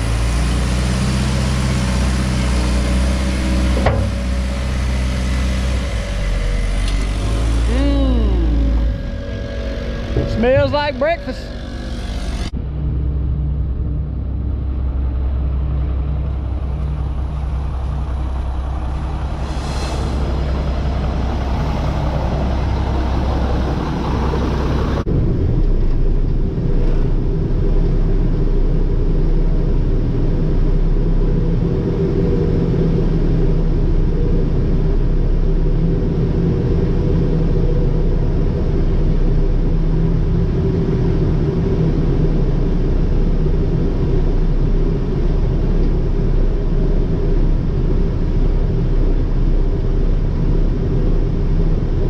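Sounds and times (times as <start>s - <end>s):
heavy diesel engines running: 0.0s - 52.0s
steady engine hum: 0.0s - 52.0s.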